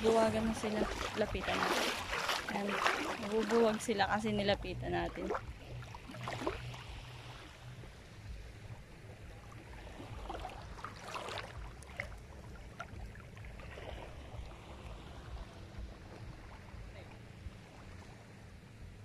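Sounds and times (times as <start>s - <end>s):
light water splashes: 0.0s - 19.0s
seawater lapping: 0.0s - 19.0s
steady low rumble: 0.0s - 19.0s.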